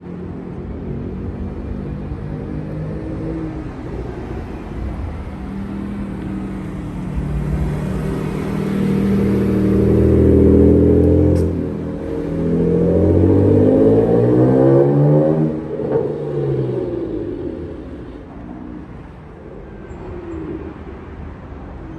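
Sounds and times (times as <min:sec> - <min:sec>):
car engine revving: 0:01.6 - 0:20.0.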